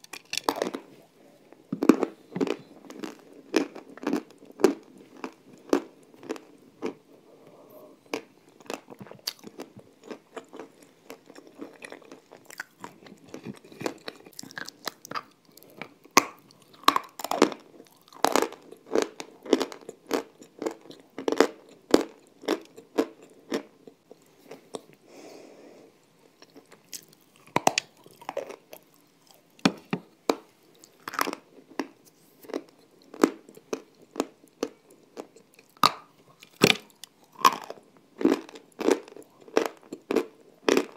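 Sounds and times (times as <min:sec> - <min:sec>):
crunchy chewing: 0:01.8 - 0:24.9, 0:26.3 - 0:29.6, 0:30.3 - 0:40.9.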